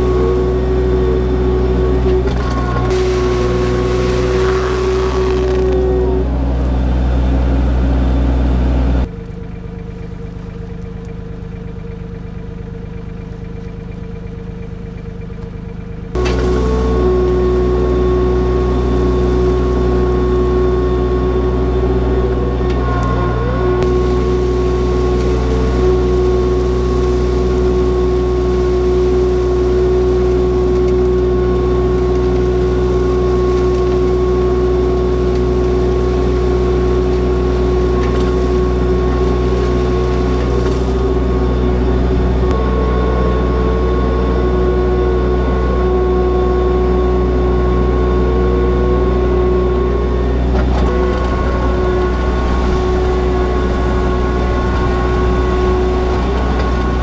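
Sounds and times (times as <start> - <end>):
diesel tractor engine running: 0.0 - 57.0
steady hum: 0.0 - 57.0.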